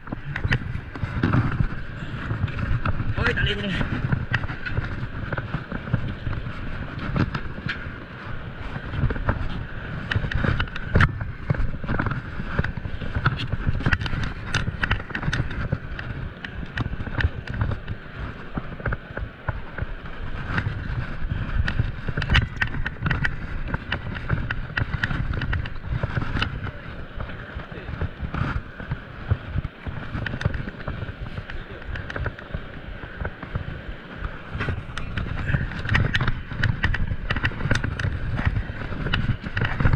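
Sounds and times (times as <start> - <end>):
water lapping around a boat: 0.0 - 39.9
wind buffeting microphone: 0.0 - 39.9.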